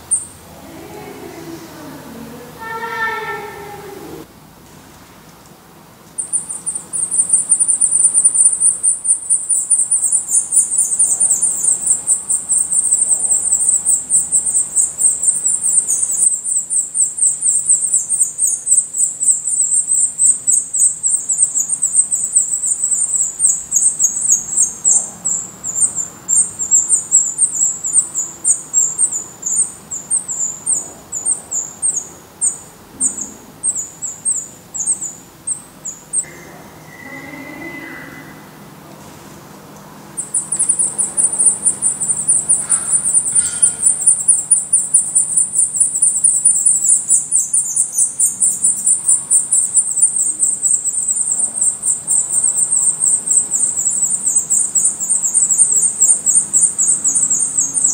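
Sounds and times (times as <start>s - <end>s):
nestlings begging calls: 0.0s - 4.3s, 6.1s - 38.6s, 40.2s - 57.9s.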